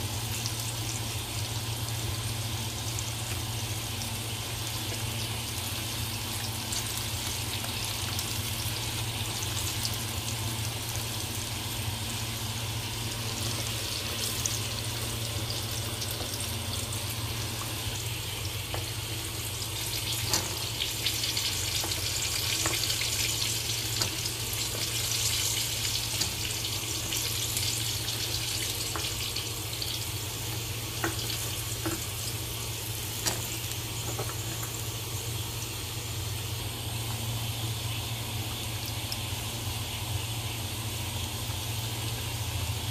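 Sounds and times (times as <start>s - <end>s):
chicken deep-frying in hot oil: 0.0s - 42.9s.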